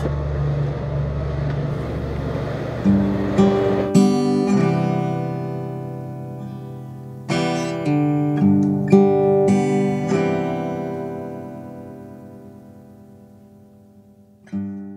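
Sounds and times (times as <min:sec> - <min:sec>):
acoustic guitar strummed chords: 0:01.6 - 0:14.9.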